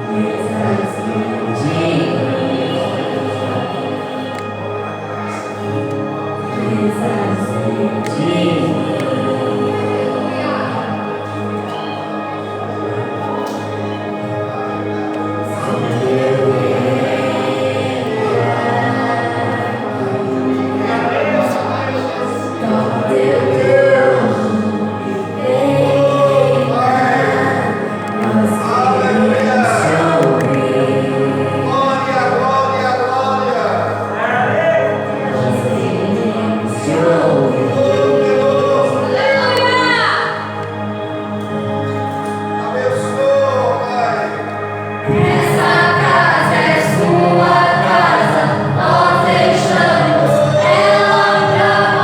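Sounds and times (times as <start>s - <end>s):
group of voices singing: 0.0s - 52.0s
sustained accompaniment: 0.0s - 52.0s.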